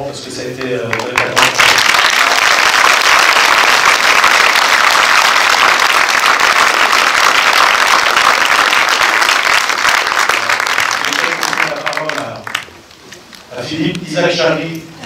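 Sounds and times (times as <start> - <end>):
audience applauding: 0.6 - 13.1.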